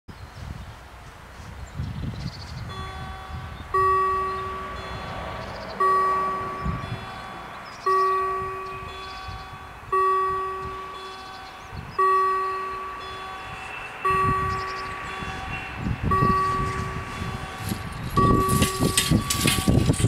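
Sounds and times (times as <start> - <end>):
low rumble: 1.6 - 20.0
level-crossing warning bell: 2.6 - 20.0.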